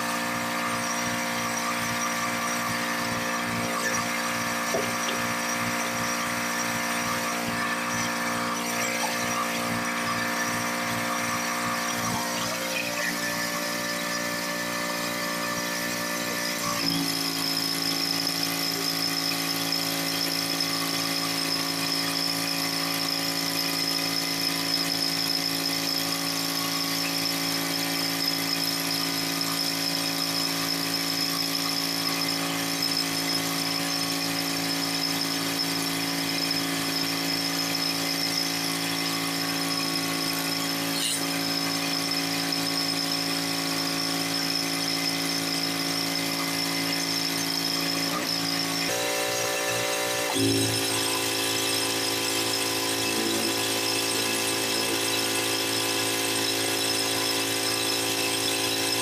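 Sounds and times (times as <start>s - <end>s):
high steady whine: 0.0s - 58.9s
pressure washer running: 0.0s - 59.0s.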